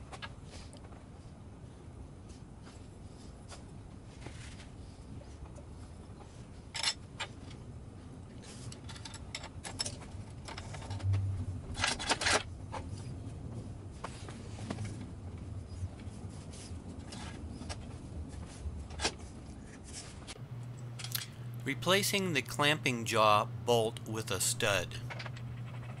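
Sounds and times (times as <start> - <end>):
low steady hum: 5.0 - 26.0.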